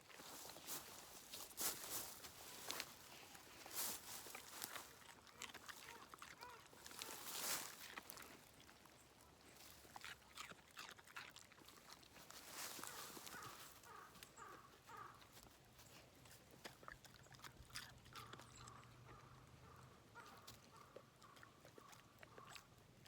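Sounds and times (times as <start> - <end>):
dog crunching carrot: 0.1 - 23.0.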